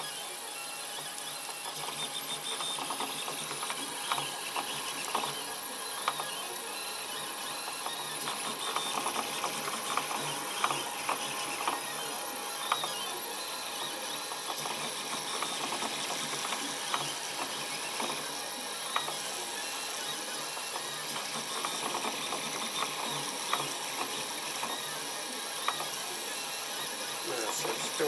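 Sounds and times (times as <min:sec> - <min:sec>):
three d printer motors humming: 0:00.0 - 0:28.0.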